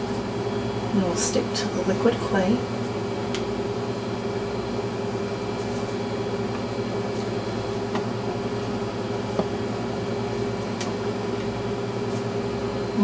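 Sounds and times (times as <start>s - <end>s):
room tone hum and hiss: 0.0s - 13.0s.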